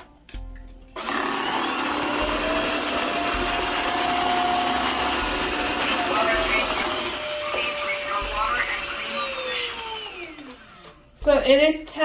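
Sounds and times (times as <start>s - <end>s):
floor washer motor whining: 1.0s - 11.1s.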